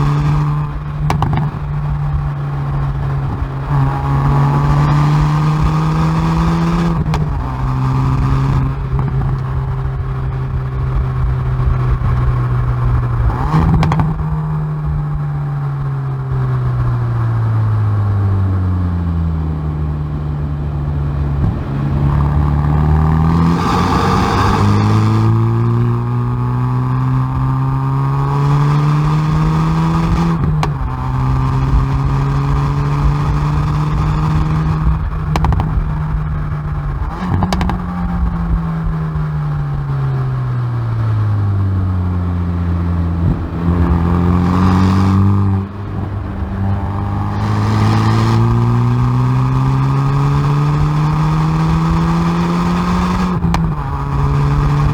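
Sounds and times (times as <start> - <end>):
exhaust crack on upshift: 0.0 - 17.6, 19.0 - 54.9
car engine accelerating: 0.0 - 54.9.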